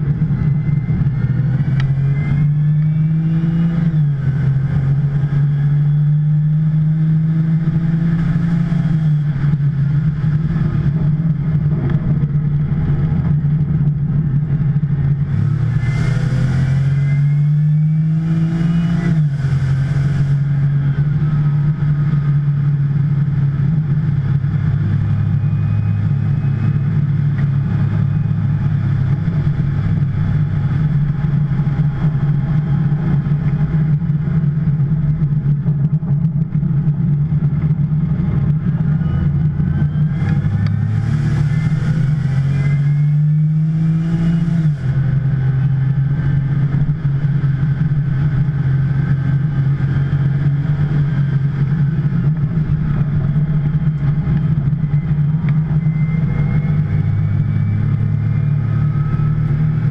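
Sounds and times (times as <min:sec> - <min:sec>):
sports car engine running: 0:00.0 - 0:59.9.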